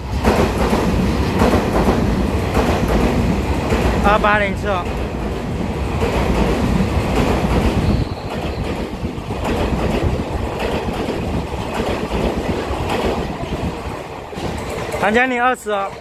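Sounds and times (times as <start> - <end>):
train passing close by: 0.0 - 16.0.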